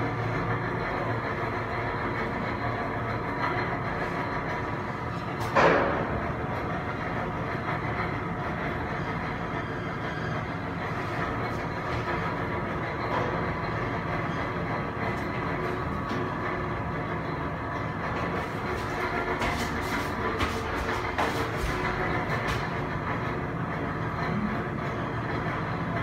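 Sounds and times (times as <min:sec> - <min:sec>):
elevator rumble and hum: 0:00.0 - 0:26.0.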